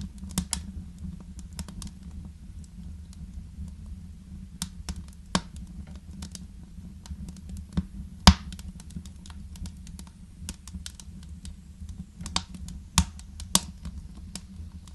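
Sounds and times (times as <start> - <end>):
fire low rumble: 0.0 - 14.9
wood fire crackling: 0.0 - 14.9.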